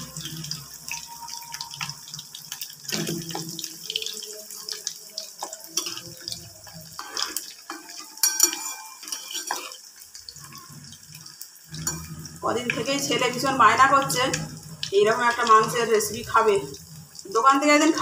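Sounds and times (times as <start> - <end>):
chicken frying in oil: 0.0 - 18.0.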